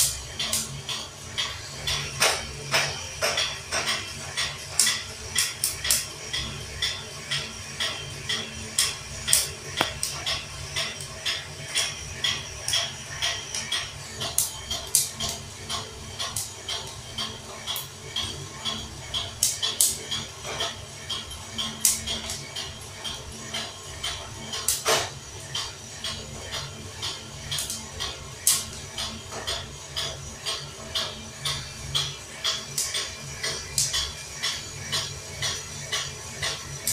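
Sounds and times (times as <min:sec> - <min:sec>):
coffee beans clicking in roaster: 0:00.0 - 0:36.9.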